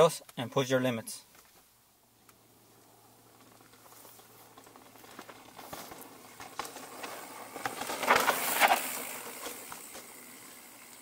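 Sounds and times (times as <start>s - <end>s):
bike clicks: 1.3s - 11.0s
bike tyres crunching over dirt: 1.3s - 11.0s.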